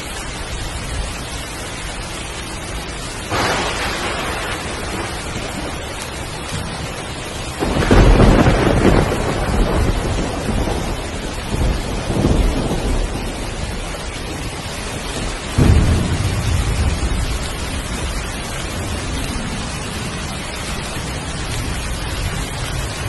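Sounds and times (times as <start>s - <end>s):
heavy rain falling: 0.0s - 23.0s
thunder rumbling: 3.2s - 23.0s
thunderclap: 3.3s - 23.0s.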